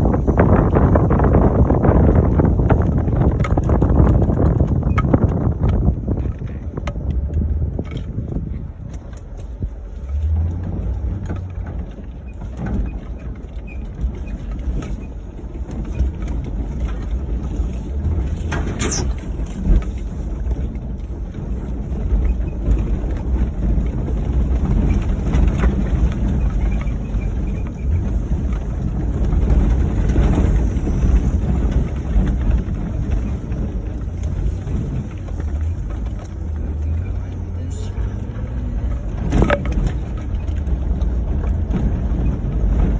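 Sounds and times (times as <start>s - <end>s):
car driving over rough dirt: 0.0s - 42.9s
knocks and rattles: 0.0s - 42.9s.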